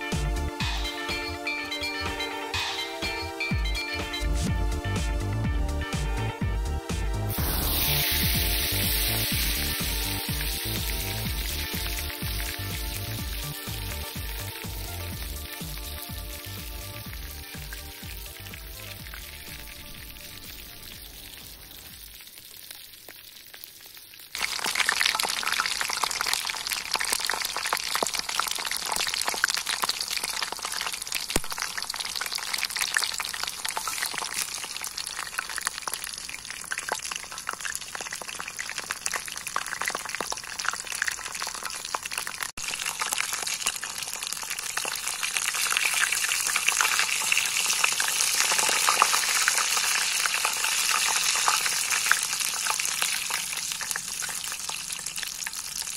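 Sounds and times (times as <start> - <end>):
food sizzling in hot oil: 7.3 - 55.9.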